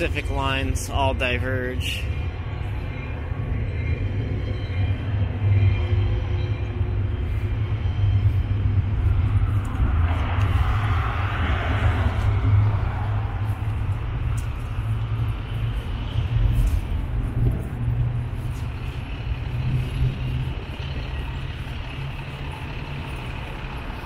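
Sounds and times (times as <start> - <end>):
road vehicle passing: 0.0 - 24.0
steady low rumble: 0.0 - 24.0.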